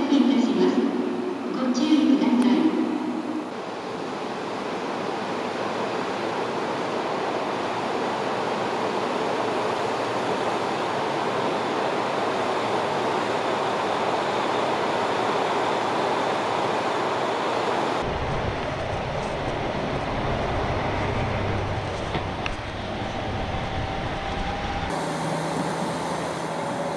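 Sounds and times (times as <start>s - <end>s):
diesel railcar running: 3.5s - 26.9s.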